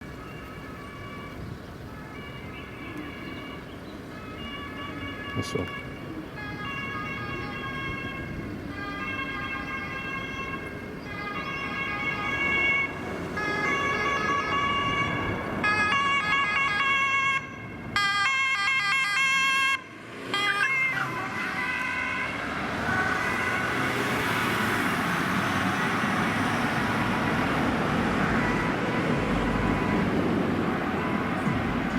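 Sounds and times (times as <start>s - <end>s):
police two-tone siren: 0.0s - 31.9s
road traffic noise: 0.0s - 31.9s.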